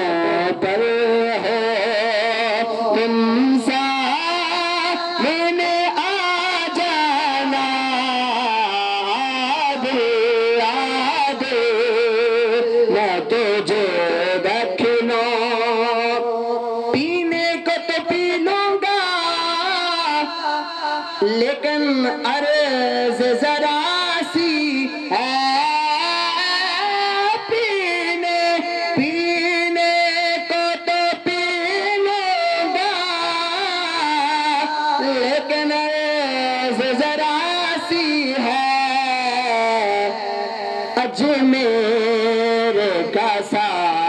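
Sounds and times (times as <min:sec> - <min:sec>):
man reciting melodically: 0:00.0 - 0:44.0
man singing into a microphone: 0:00.0 - 0:44.0.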